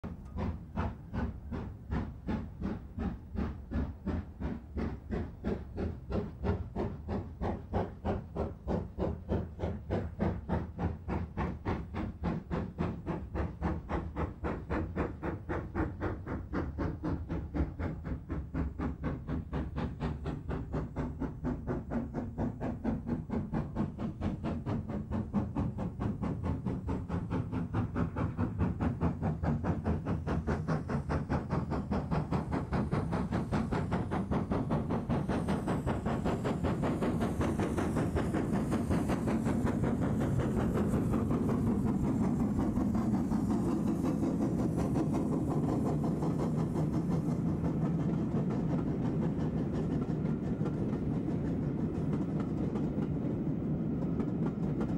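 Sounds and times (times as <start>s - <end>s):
steam locomotive chuffing: 0.0s - 54.9s.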